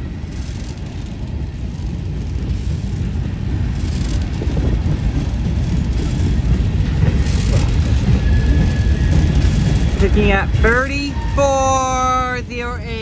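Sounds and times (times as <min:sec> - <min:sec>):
freight train rumbling by: 0:00.0 - 0:13.0.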